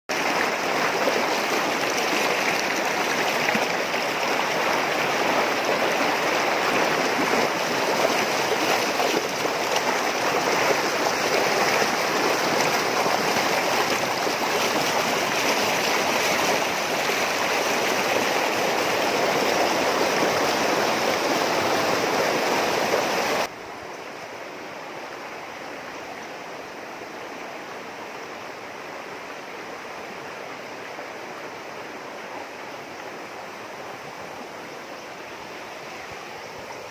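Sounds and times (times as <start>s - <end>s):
river water rushing over rocks: 0.1s - 36.9s.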